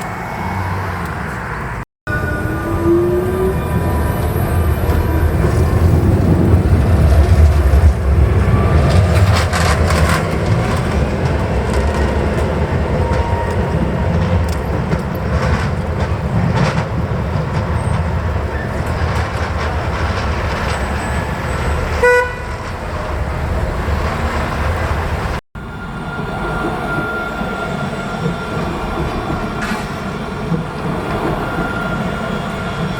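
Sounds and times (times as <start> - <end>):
tram horn toot: 0.0 - 32.9
tram rumbling: 0.0 - 32.9.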